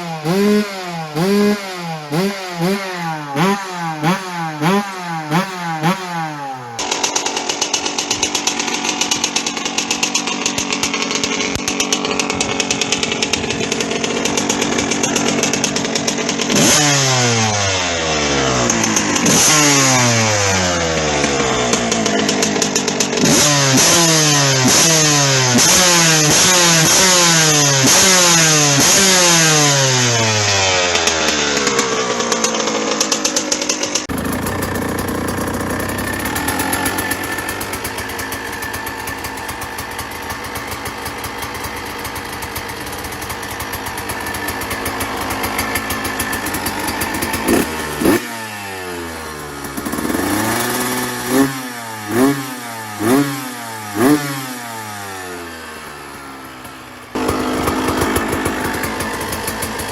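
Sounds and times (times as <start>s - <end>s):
motocross engine revving: 0.0s - 59.9s
motorbike idling: 0.0s - 59.9s.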